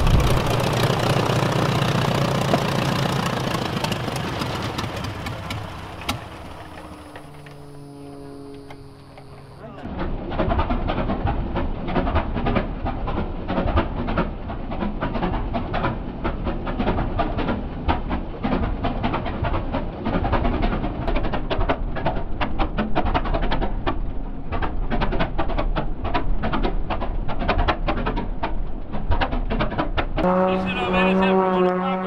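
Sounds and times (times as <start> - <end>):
slowed aircraft engine clatter: 0.0 - 32.0.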